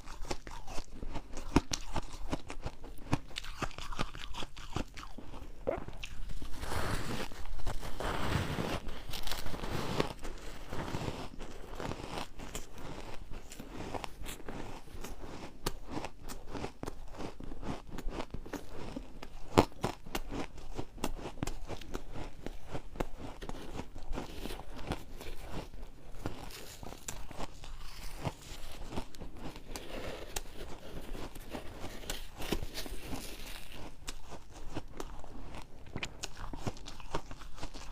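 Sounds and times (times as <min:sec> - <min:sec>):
ice being chewed: 0:00.0 - 0:37.9.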